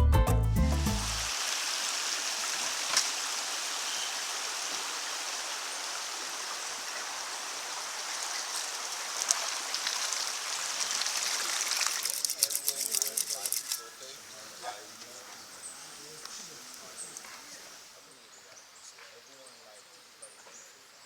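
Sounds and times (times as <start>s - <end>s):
rushing water: 1.0s - 18.0s.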